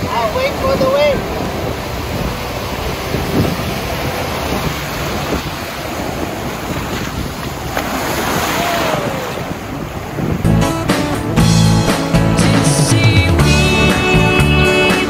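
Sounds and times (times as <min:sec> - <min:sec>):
ocean waves breaking: 0:00.0 - 0:15.0
wind rumbling on microphone: 0:00.0 - 0:15.0.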